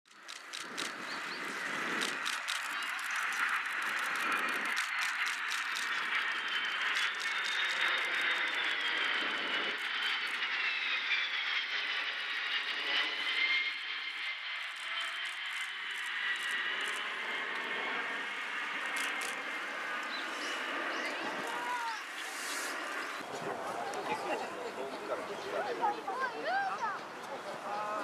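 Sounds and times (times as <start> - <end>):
jet planes flying past: 0.1 - 28.0.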